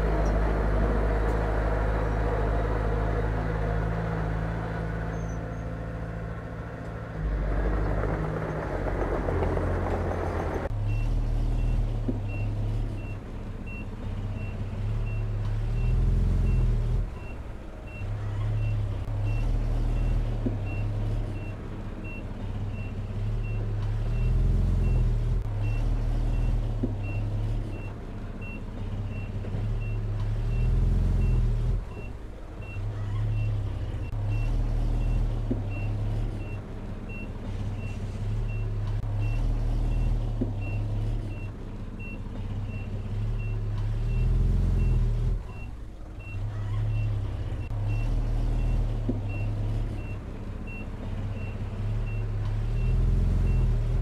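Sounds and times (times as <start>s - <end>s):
bulldozer diesel engine rumble: 0.0s - 54.0s.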